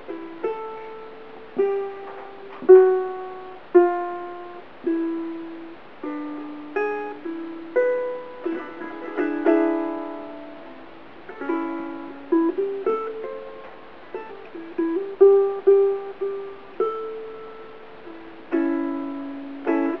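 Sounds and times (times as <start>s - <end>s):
ukulele fingerpicked blues: 0.0s - 20.0s.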